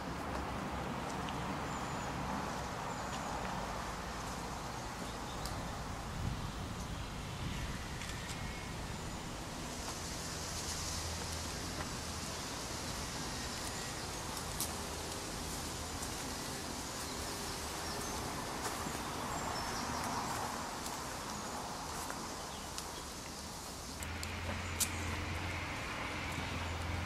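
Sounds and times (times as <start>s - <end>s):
rustling leaves: 0.0s - 27.0s.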